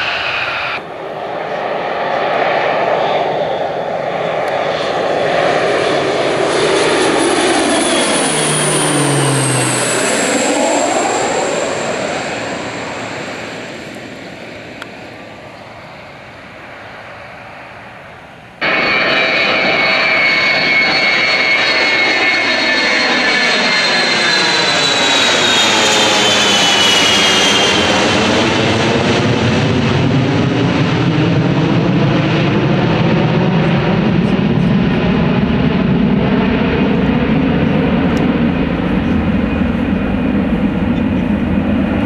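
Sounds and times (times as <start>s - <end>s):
jet aircraft passing overhead: 0.0s - 42.0s
twin-engine aircraft: 0.0s - 42.0s.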